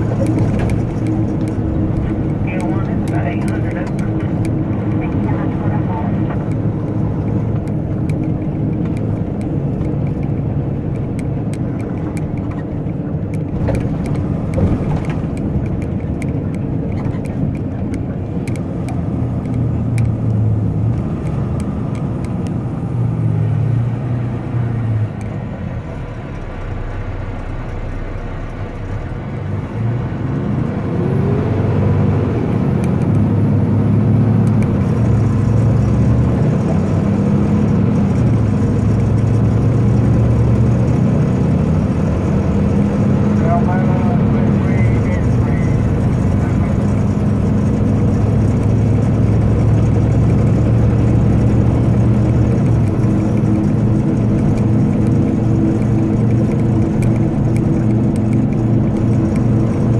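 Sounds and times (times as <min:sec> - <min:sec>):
diesel truck engine running: 0:00.0 - 0:59.9
road noise: 0:00.0 - 0:59.9.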